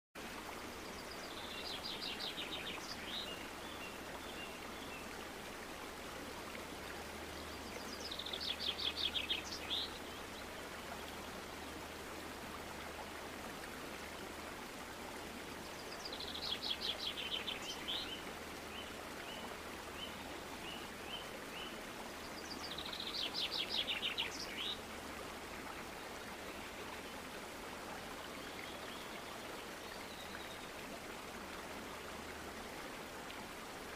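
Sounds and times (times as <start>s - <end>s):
running water: 0.2s - 33.9s.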